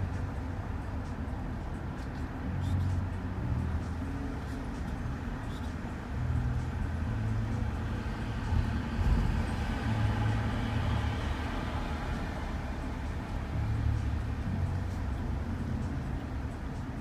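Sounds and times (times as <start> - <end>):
van engine and tyre rumble: 0.0 - 17.0.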